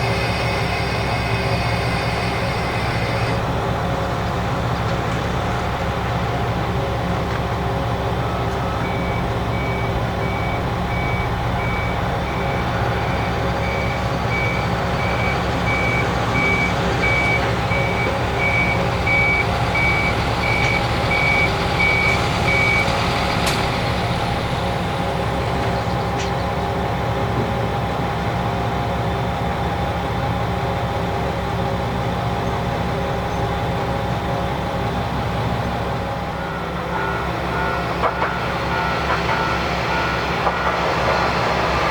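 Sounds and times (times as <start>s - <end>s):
diesel railcar engine idling: 0.0s - 41.9s.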